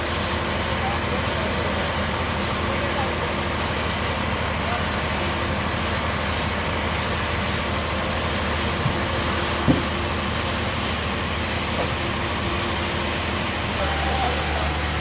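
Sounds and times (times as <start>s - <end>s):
sawmill machine hum: 0.0s - 15.0s.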